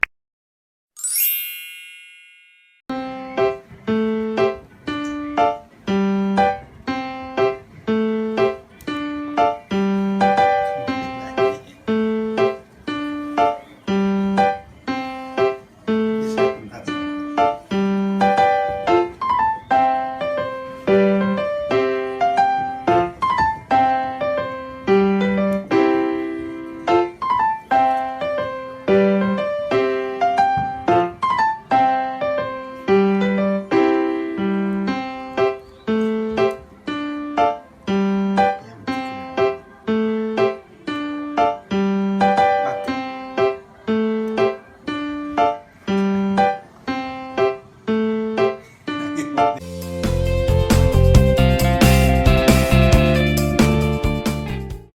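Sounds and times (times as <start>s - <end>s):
background piano music: 1.0s - 54.9s.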